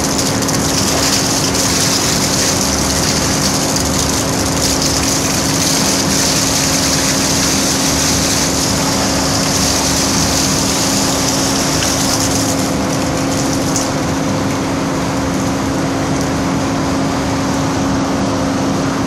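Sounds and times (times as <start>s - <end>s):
wastewater splashing into drain: 0.0s - 16.6s
machinery hum: 0.0s - 19.0s.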